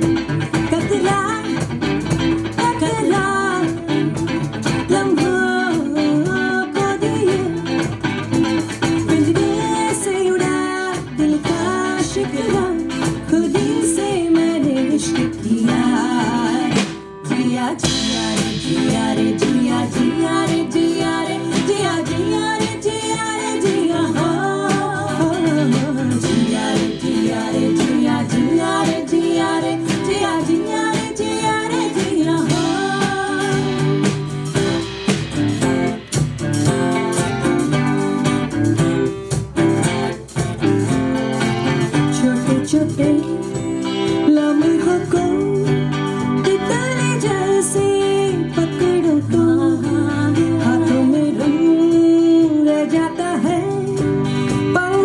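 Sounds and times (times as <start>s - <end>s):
person singing: 0.0s - 7.9s, 8.6s - 35.1s, 41.8s - 55.0s
live band guitars: 0.0s - 55.0s.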